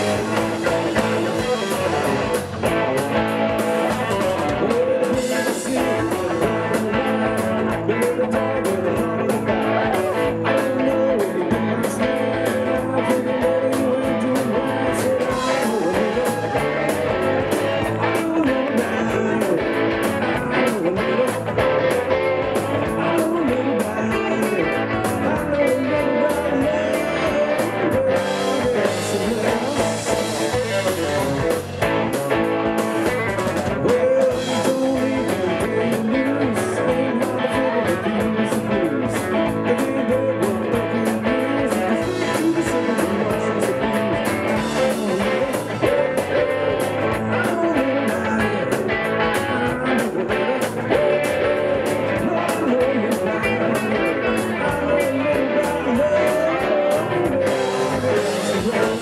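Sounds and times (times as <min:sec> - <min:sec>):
drum kit: 0:00.0 - 0:59.0
electric guitars: 0:00.0 - 0:59.0
person singing: 0:00.0 - 0:59.0.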